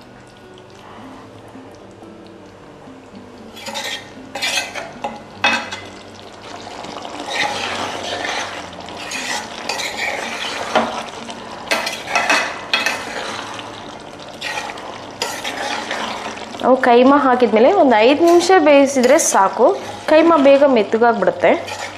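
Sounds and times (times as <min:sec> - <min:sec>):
simmering sizzle: 0:00.0 - 0:21.9
spoon scraping a pan: 0:03.4 - 0:06.0, 0:06.8 - 0:21.9.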